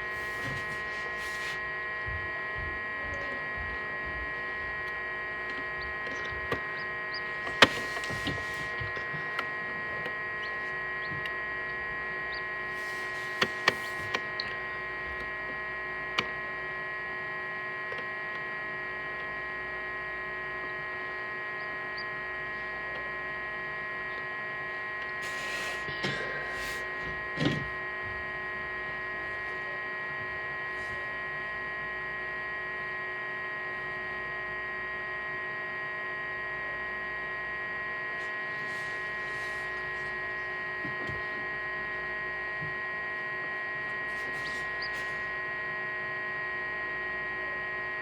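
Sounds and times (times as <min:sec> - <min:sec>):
incubator fan humming: 0:00.0 - 0:48.0.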